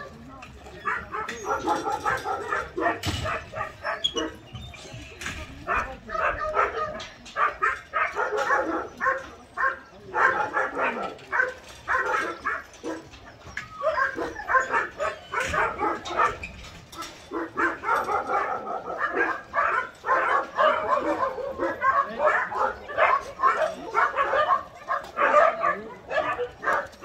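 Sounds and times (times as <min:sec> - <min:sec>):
dogs barking and yipping: 0:00.0 - 0:27.0.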